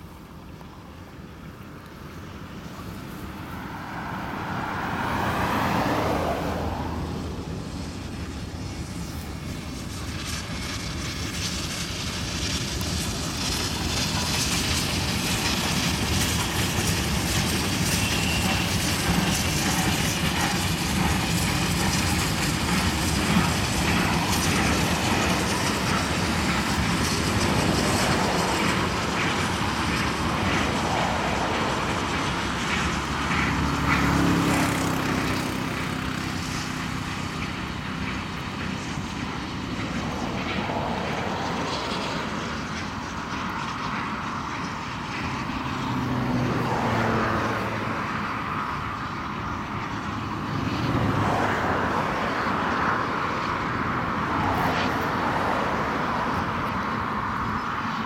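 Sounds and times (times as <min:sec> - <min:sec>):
steady rushing noise: 0:00.0 - 0:58.0
steam locomotives passing: 0:00.0 - 0:58.0.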